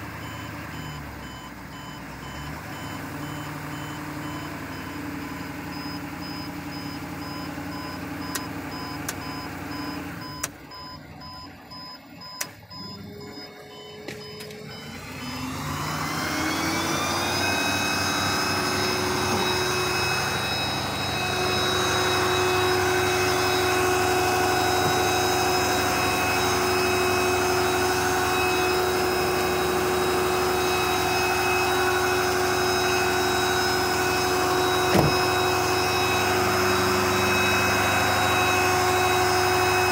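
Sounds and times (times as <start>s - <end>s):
truck engine running with whine: 0.0s - 39.9s
electronic warning chime: 0.2s - 39.6s.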